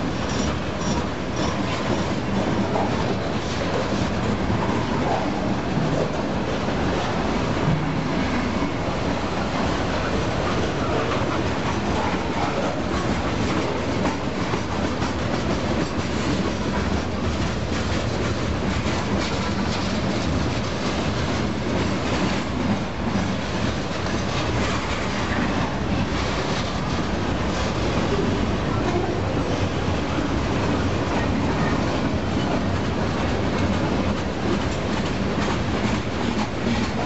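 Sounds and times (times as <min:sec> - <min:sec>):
freight train wheels rumbling: 0:00.0 - 0:37.0
wheels clacking over rail joints: 0:00.0 - 0:37.0.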